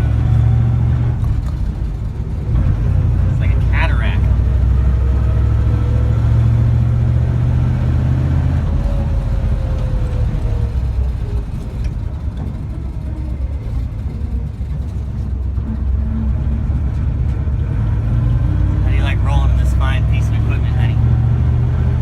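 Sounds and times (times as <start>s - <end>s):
old car engine running: 0.0s - 22.0s.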